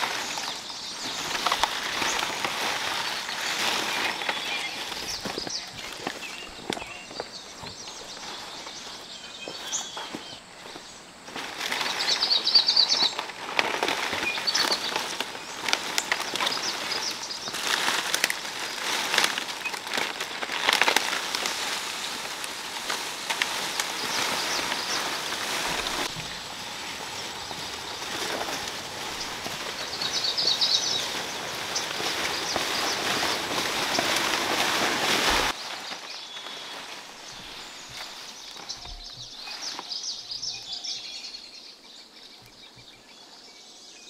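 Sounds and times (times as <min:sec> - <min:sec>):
dry palm fronds rustling: 0:00.0 - 0:42.8
birds chirping: 0:00.0 - 0:44.0.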